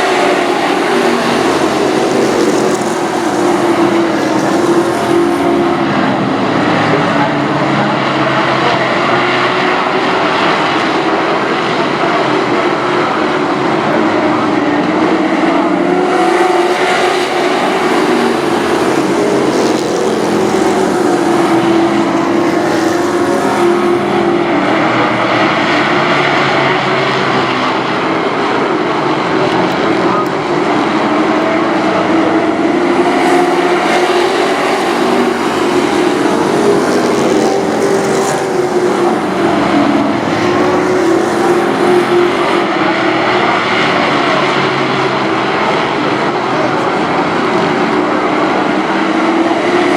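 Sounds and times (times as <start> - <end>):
race truck engines droning: 0.0 - 49.9.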